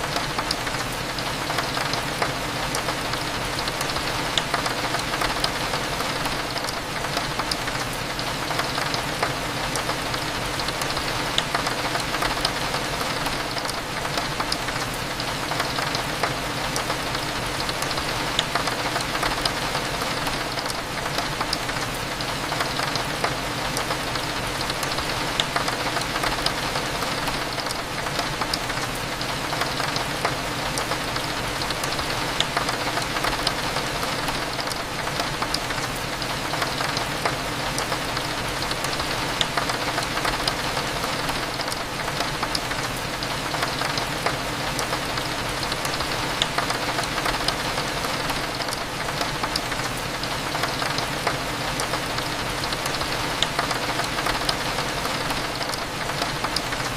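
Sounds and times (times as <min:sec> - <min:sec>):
rain pattering on a window: 0:00.0 - 0:56.9.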